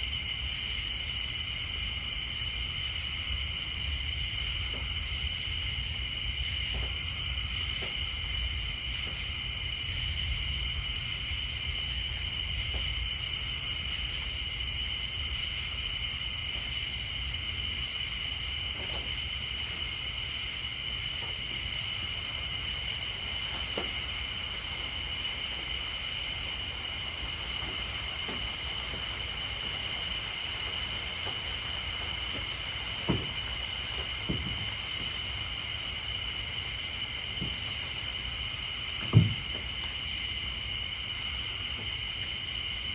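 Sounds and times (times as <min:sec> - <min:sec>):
insects and frogs trilling: 0:00.0 - 0:42.9.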